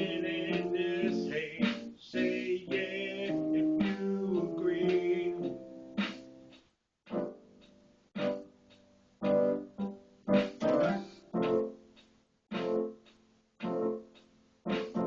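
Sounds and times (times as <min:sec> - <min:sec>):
electronic keyboard playing chords: 0:00.0 - 0:11.8, 0:12.5 - 0:15.0.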